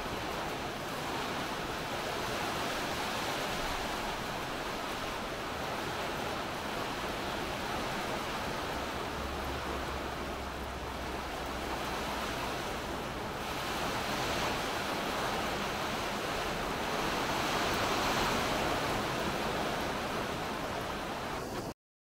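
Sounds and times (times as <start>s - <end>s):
steady rain falling: 0.0s - 21.7s.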